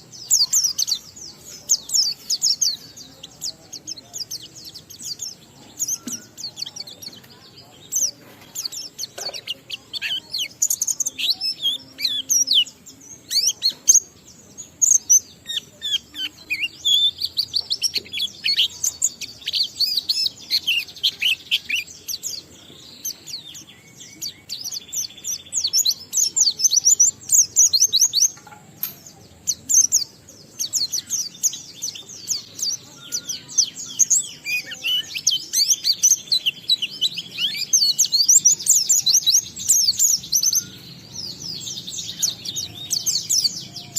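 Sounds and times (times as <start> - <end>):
bird twittering chirps and trills: 0.0 - 43.9.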